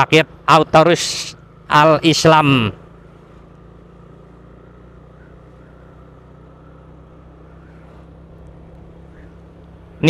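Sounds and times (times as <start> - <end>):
road noise: 0.0 - 10.0
vehicle engine hum: 0.0 - 10.0.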